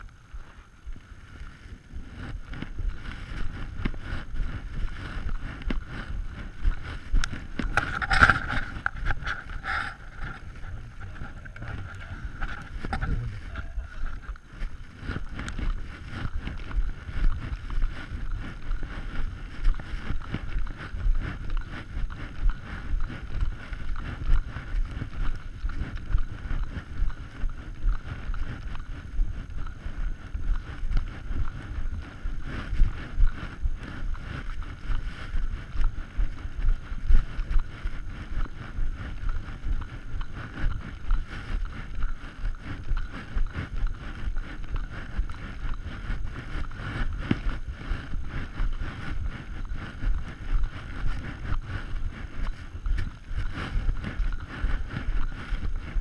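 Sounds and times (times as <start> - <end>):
footsteps in snow: 0.1 - 56.0.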